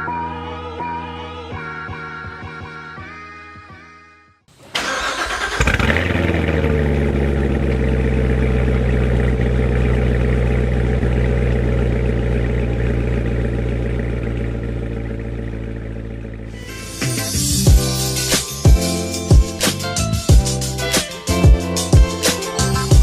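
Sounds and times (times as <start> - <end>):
car engine starting and idling: 4.5 - 23.0.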